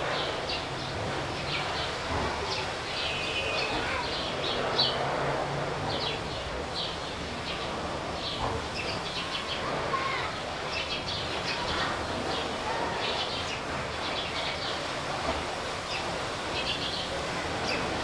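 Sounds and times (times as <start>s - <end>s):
sparrows chirping: 0.0s - 5.2s, 5.9s - 14.9s, 15.8s - 18.0s
steady background noise: 0.0s - 18.0s.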